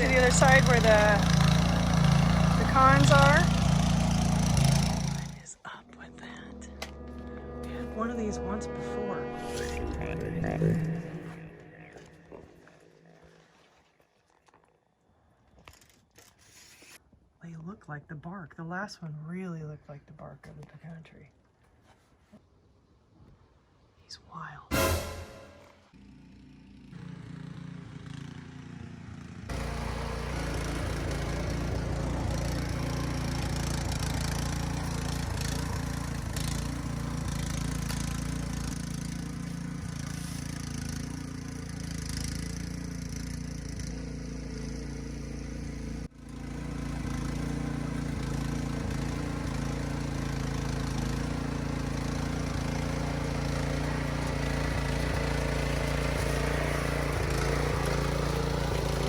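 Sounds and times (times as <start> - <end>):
garden tiller engine running: 0.0 - 13.6, 24.8 - 59.0.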